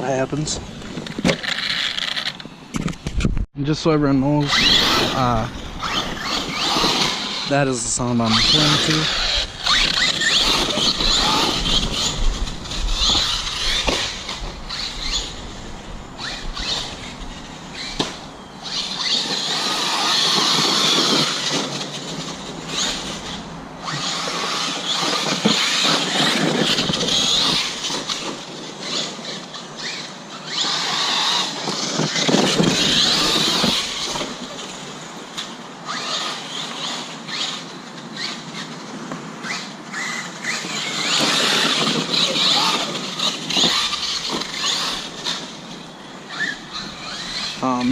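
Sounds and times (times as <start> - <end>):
rc truck accelerating: 0.0 - 3.2, 4.2 - 47.9.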